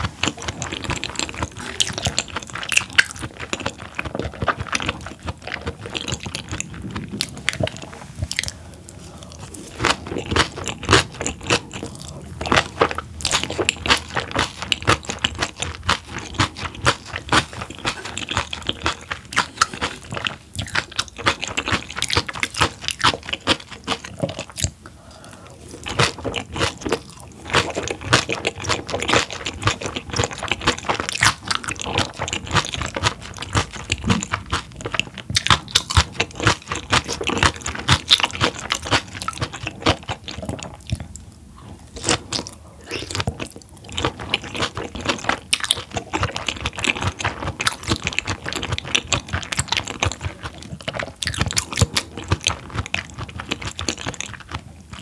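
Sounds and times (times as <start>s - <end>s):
wet chewing crunches: 0.0s - 55.0s.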